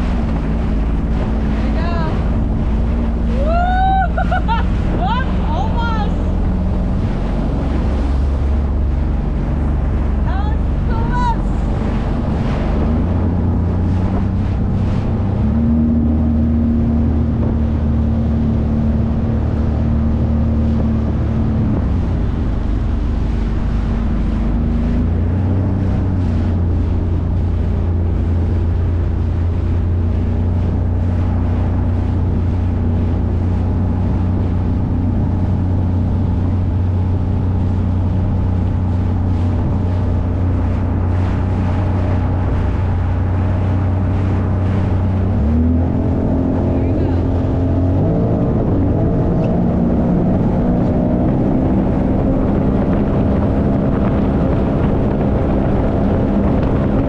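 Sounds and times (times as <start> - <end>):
jet ski engine running: 0.0 - 57.0
wind on microphone: 0.0 - 57.0.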